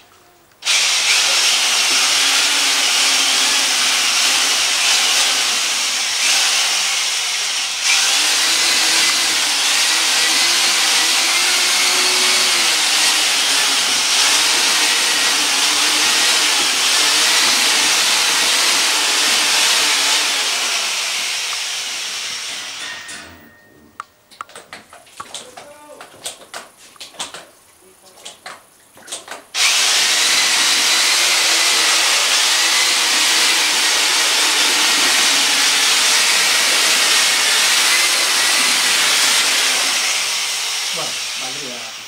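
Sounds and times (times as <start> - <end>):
electric drill motor whirring: 0.6 - 22.9, 29.6 - 42.0.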